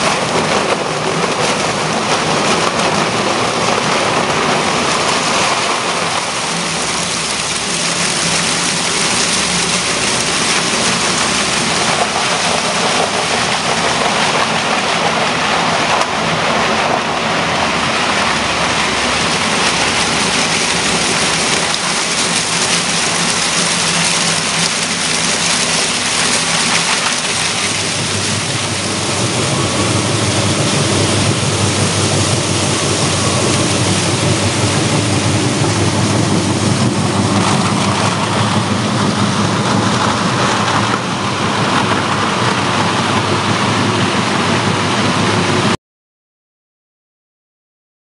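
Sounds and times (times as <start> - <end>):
machinery running: 0.0 - 45.8
water churning with plastic: 0.0 - 45.8.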